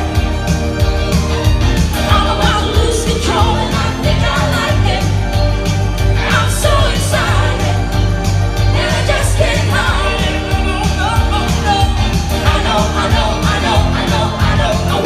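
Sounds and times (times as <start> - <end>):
bass and drum beat: 0.0 - 15.0
person singing lead vocal: 1.9 - 15.0.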